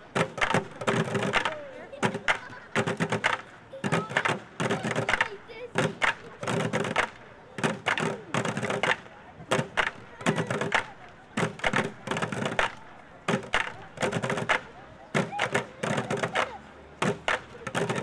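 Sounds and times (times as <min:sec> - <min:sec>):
sticks drumming on plastic buckets: 0:00.0 - 0:18.0.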